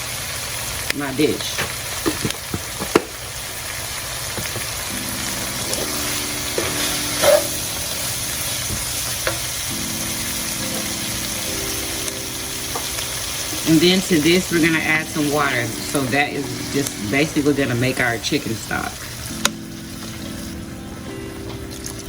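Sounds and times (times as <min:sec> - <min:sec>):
vegetables sizzling in butter: 0:00.0 - 0:22.0.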